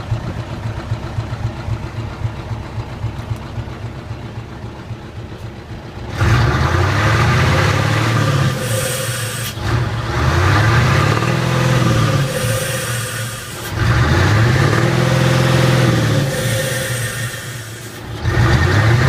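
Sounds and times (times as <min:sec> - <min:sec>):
diesel truck engine revving: 0:00.0 - 0:19.0.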